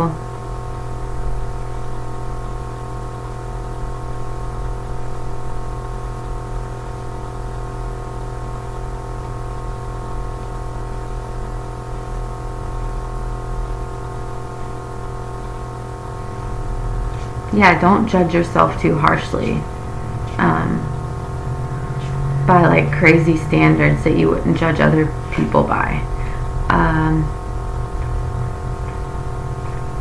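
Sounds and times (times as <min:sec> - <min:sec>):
electrical hum and buzz: 0:00.0 - 0:30.0.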